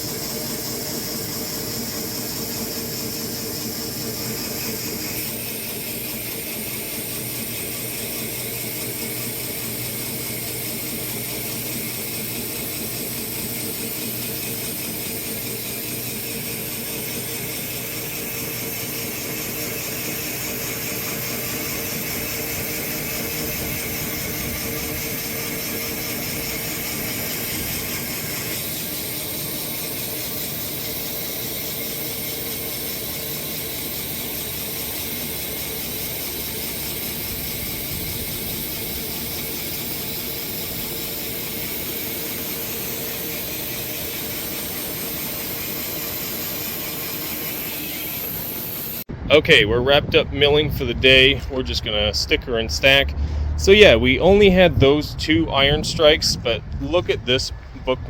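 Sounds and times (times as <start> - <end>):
sawmill blade cutting log: 0.0 - 49.1.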